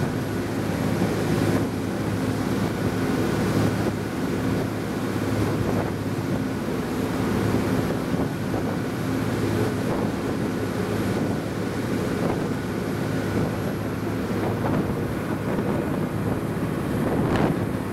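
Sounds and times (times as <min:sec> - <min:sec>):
boat engine droning: 0:00.0 - 0:17.9
water rushing in wake: 0:00.0 - 0:17.9
wind buffeting microphone: 0:00.0 - 0:17.9.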